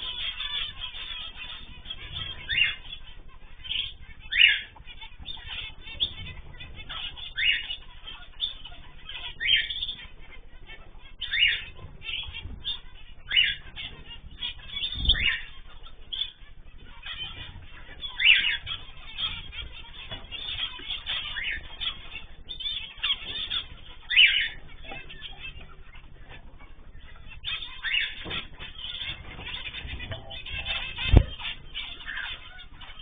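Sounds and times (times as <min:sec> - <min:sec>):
finches honking calls: 0:00.0 - 0:33.0.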